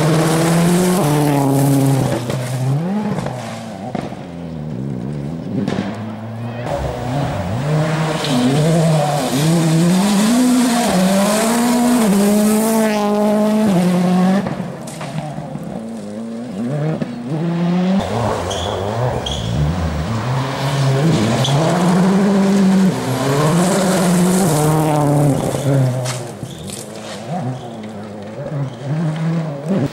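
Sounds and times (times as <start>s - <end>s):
rally car engine revving: 0.0s - 29.9s.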